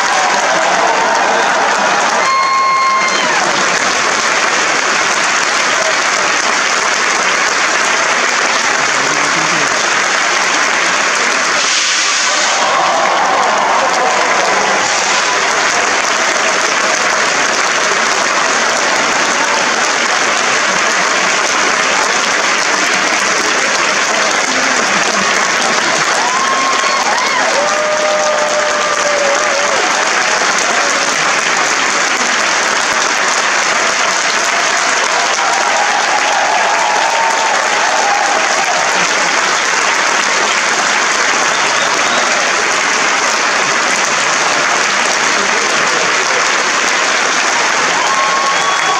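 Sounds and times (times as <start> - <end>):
audience applauding: 0.0 - 48.9.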